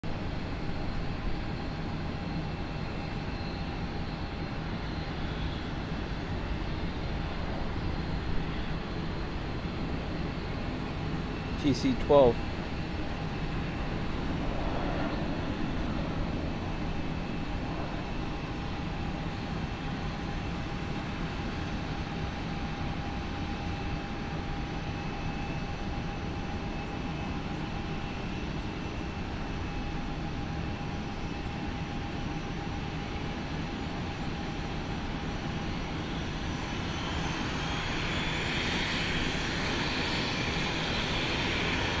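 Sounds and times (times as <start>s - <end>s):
turboprop engine hum with whine: 0.0s - 42.0s.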